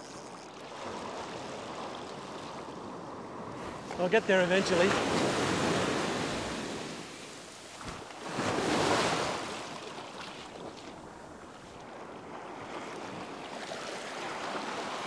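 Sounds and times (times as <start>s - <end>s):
small waves washing on beach: 0.0s - 15.0s.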